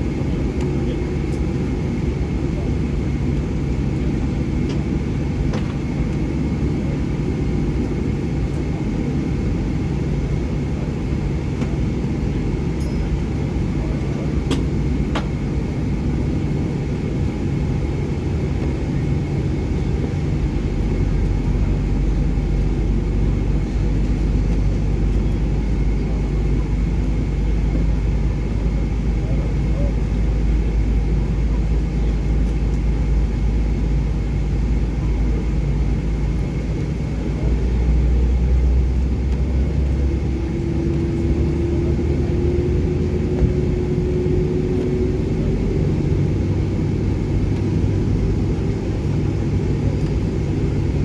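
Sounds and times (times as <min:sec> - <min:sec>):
aircraft cabin rumble: 0:00.0 - 0:51.0.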